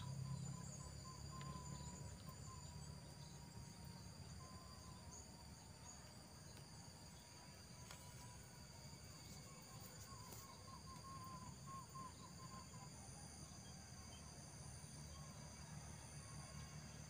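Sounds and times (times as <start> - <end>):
insects trilling: 0.0 - 17.0
low background hum: 0.0 - 17.0.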